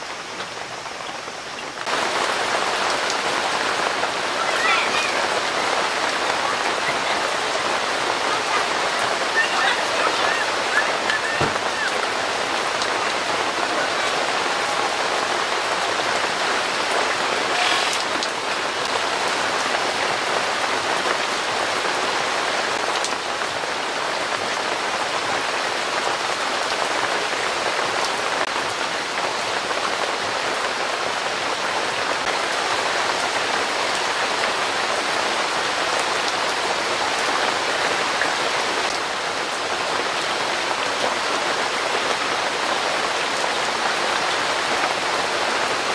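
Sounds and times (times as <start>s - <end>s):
heavy rain on asphalt and car roofs: 0.0s - 45.9s.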